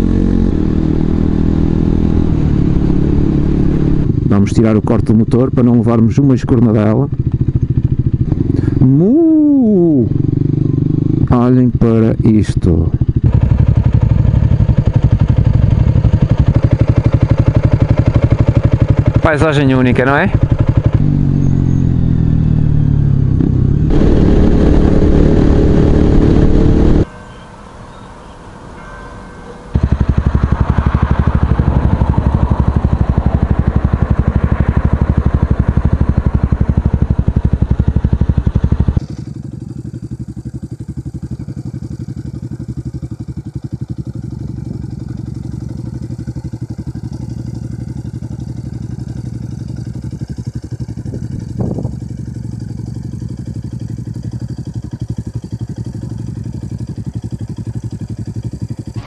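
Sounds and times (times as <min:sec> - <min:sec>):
motorcycle engine running: 0:00.0 - 0:27.3, 0:28.2 - 0:59.0.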